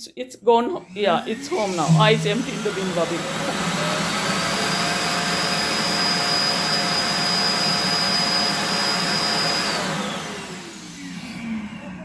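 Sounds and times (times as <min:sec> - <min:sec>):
vacuum suction with high whine: 0:00.8 - 0:12.0.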